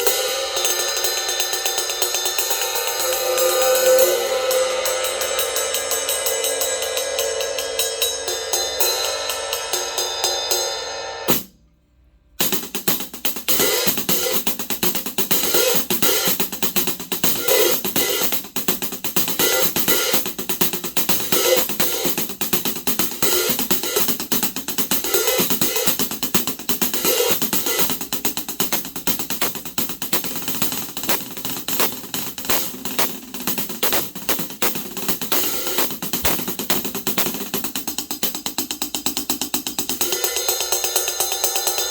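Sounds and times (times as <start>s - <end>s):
hi-hat groove: 0.0s - 11.5s, 12.4s - 41.9s
drums: 0.0s - 11.6s, 12.3s - 41.9s.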